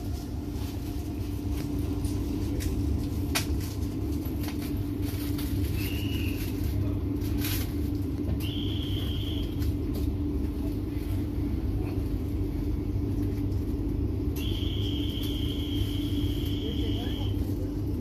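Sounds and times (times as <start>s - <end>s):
constant hum: 0.0s - 18.0s
train rumble: 0.0s - 18.0s.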